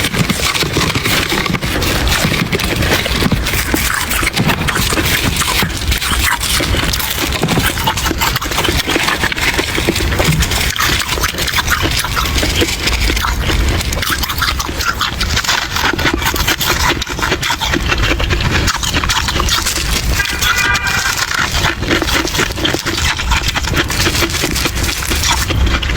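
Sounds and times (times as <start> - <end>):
chewing crunchy ice: 0.0 - 25.9.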